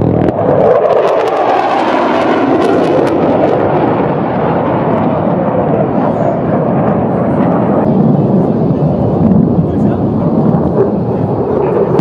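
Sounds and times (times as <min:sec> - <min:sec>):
fighter jet engine roar: 0:00.0 - 0:12.0.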